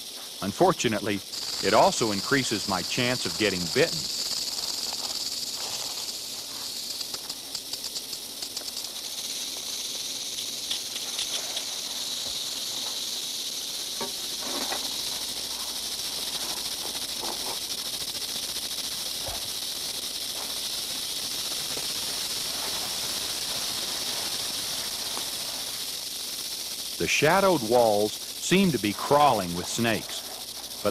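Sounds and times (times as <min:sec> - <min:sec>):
rattlesnakes rattling: 0:00.0 - 0:30.9.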